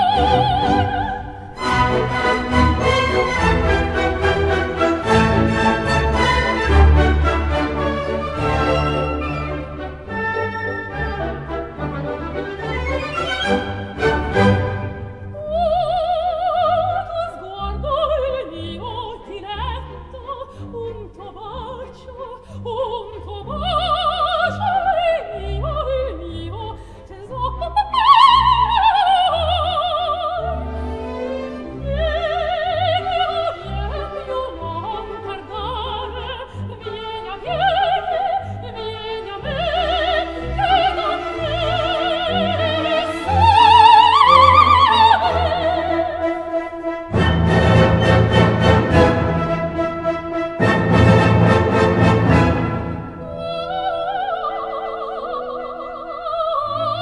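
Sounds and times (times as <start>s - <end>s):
soprano singing: 0.0s - 57.0s
symphony orchestra: 0.0s - 57.0s.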